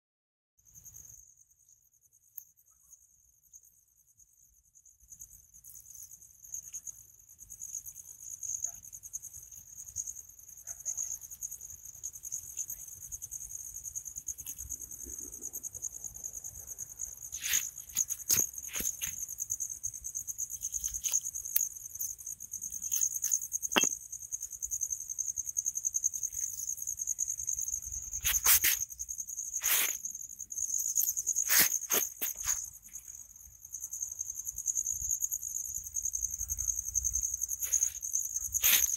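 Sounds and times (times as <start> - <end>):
insects chirping: 0.6 - 38.9.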